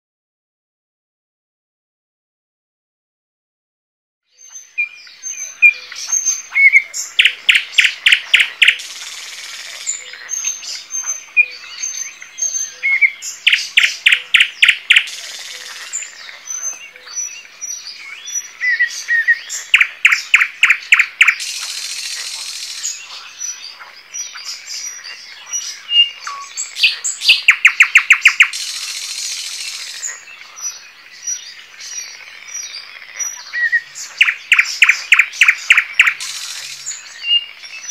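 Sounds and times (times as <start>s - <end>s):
birds chirping softly: 4.2s - 37.9s
bird singing repeated phrase: 4.3s - 37.9s.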